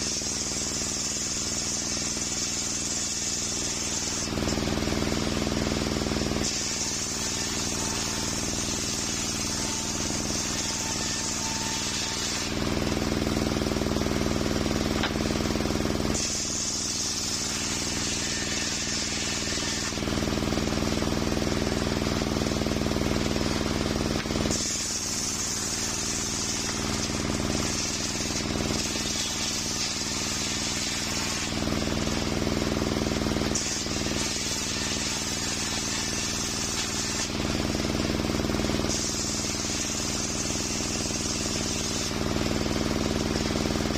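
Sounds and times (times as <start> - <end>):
circular saw blade cutting wood: 0.0 - 43.9.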